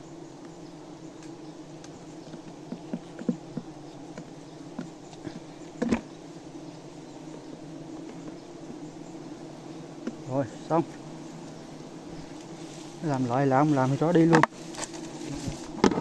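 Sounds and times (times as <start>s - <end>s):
bees droning buzz: 0.0s - 16.0s.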